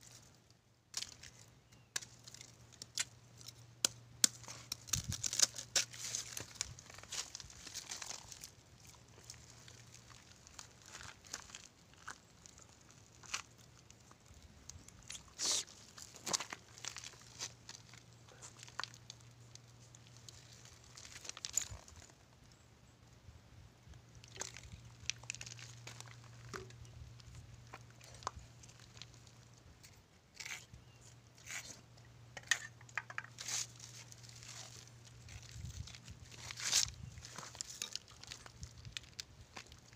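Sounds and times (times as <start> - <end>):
spiny shell crunching: 0.0 - 22.4, 24.0 - 39.9.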